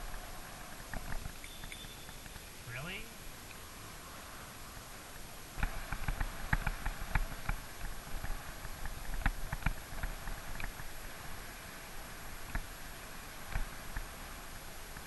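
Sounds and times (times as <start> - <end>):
wind and road noise hiss: 0.0 - 15.0.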